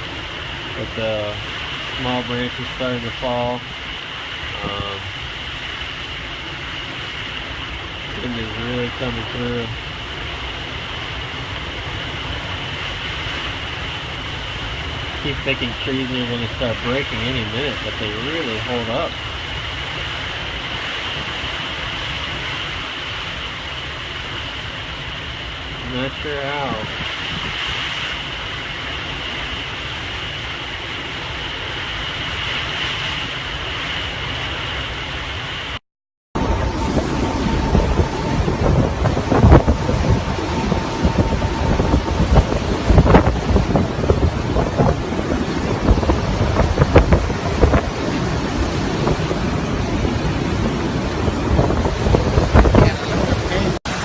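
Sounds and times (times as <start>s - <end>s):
strong wind through trees: 0.0s - 35.8s, 36.4s - 54.0s
wind buffeting microphone: 0.0s - 35.8s, 36.4s - 54.0s.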